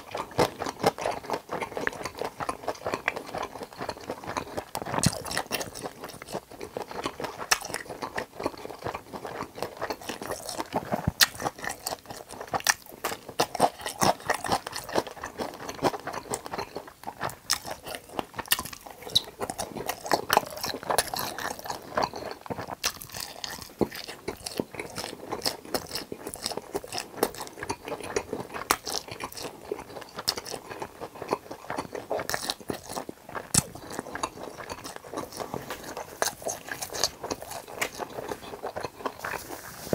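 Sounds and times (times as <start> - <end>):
chewing crispy food: 0.0 - 39.9.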